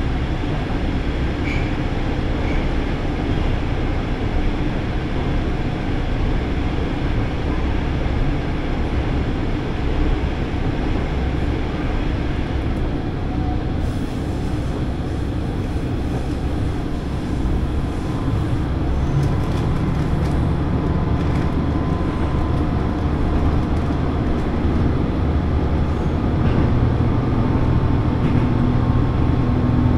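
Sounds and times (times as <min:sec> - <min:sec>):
diesel engine drone: 0:00.0 - 0:29.9
wheel and rail noise: 0:00.0 - 0:29.9.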